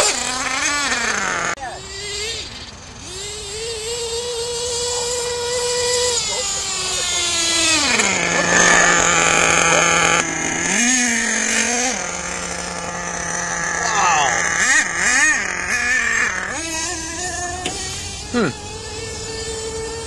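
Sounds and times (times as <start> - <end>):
small nitro engine whining: 0.0 - 20.0.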